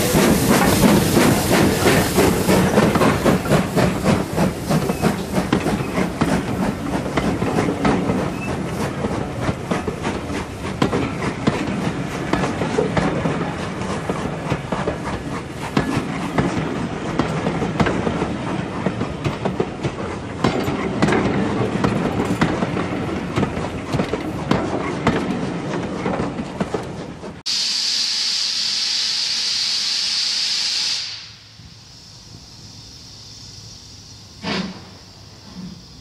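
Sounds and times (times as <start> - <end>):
steam locomotive hissing: 0.0 - 24.9, 27.5 - 36.0
train wheels clicking over rail joints: 0.0 - 27.4, 34.4 - 36.0.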